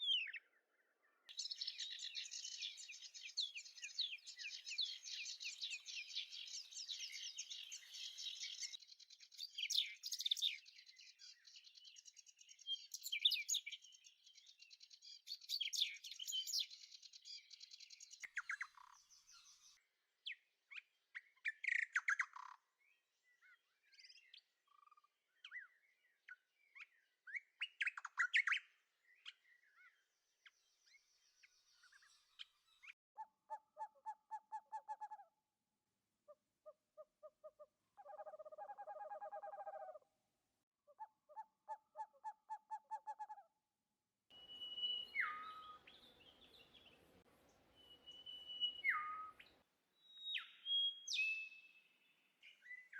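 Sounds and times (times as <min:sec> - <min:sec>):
small birds chirping: 0:00.0 - 0:35.3, 0:44.3 - 0:52.9.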